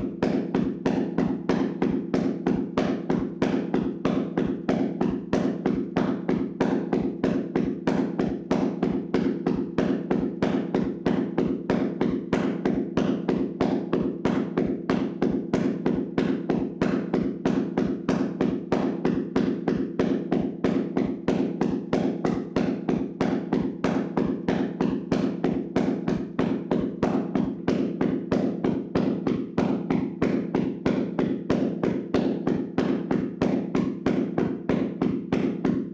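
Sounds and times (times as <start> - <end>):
hands slapping on body: 0.2 - 35.9.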